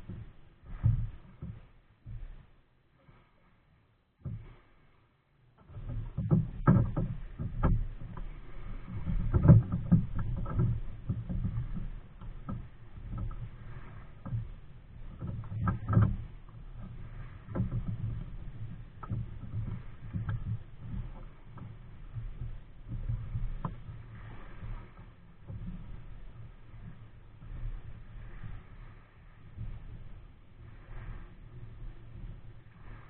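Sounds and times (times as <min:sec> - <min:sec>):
paddle knocking against hull: 0:00.0 - 0:03.3, 0:04.2 - 0:04.7, 0:05.5 - 0:33.0
paddle splashing in water: 0:04.2 - 0:05.0, 0:05.6 - 0:33.0.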